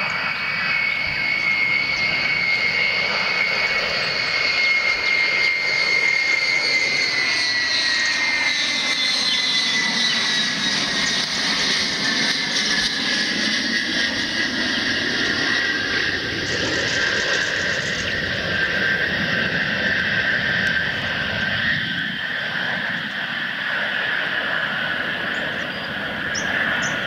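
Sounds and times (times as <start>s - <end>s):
jet airplane passing low: 0.0s - 27.0s.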